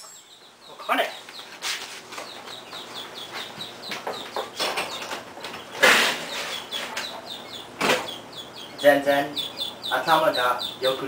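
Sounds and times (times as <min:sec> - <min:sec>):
chickens clucking and peeping: 0:00.0 - 0:11.0.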